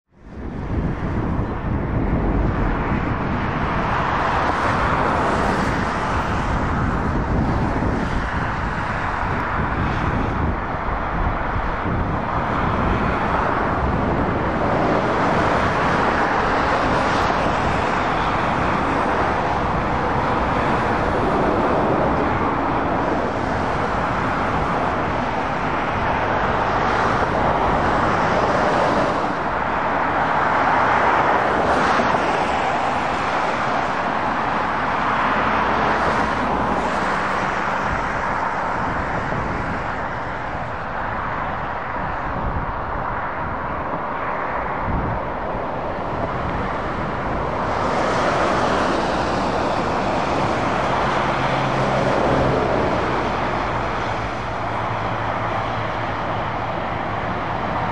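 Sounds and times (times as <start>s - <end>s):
motorway traffic passing: 0.1s - 57.9s.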